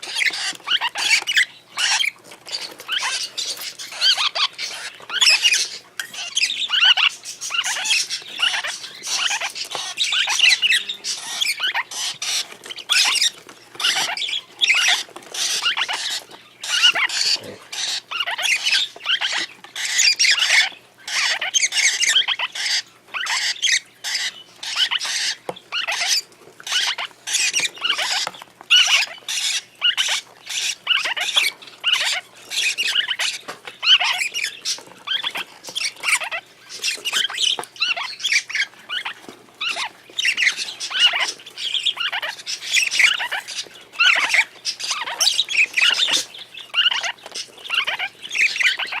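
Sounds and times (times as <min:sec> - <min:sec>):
parrot chicks calling harshly: 0:00.0 - 0:49.0.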